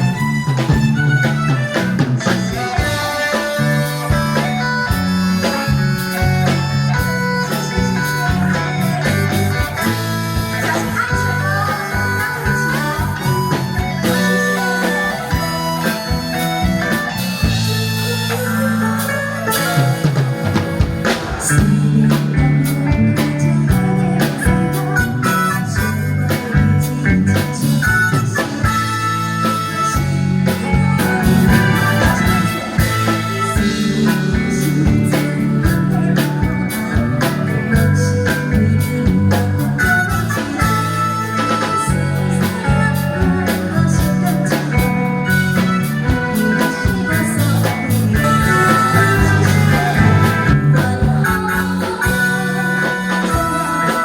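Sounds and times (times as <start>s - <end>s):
live band playing: 0.0s - 54.0s
steady drum beats: 0.0s - 54.0s.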